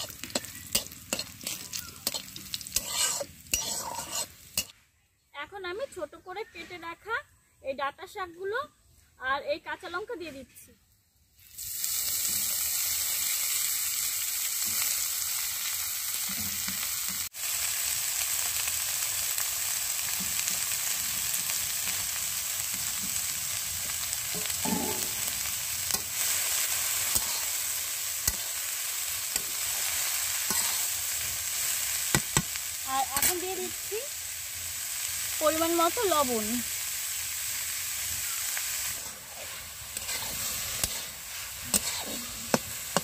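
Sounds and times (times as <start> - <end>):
greens sizzling in hot oil: 0.0 - 4.8, 9.5 - 43.0.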